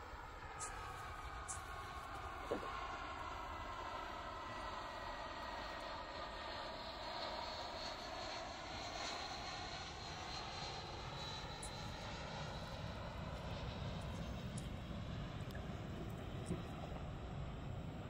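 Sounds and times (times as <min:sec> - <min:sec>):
jet airliner engines roaring: 0:00.0 - 0:18.0.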